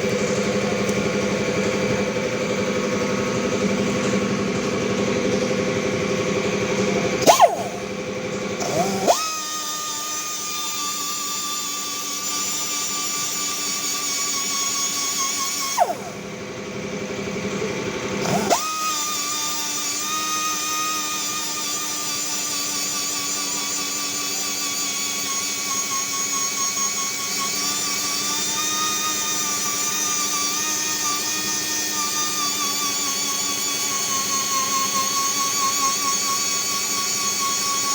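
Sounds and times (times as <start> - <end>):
rotary power tool whining: 0.0 - 37.9.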